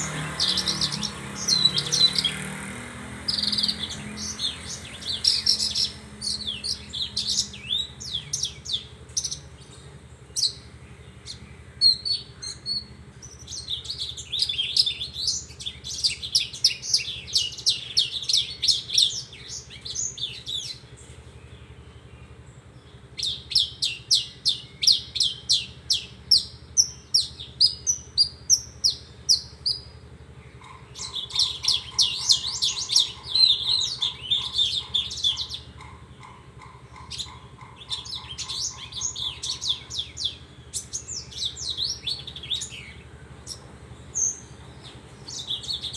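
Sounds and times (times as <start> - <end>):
bird singing high chirps and trills: 0.0 - 45.9.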